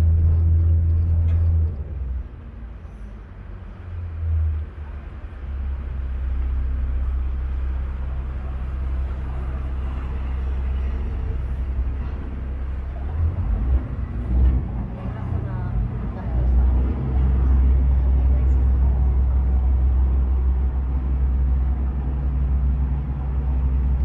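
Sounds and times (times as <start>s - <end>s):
boat engine rumble: 0.0s - 24.0s
wind: 0.0s - 24.0s.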